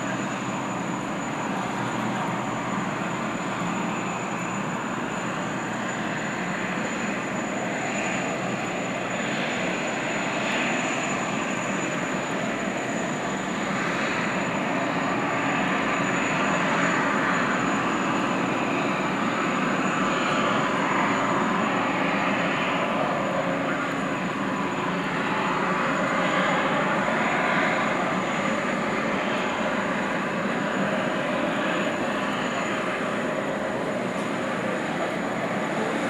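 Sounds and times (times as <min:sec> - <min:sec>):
hydrofoil ferry jet noise: 0:00.0 - 0:36.0.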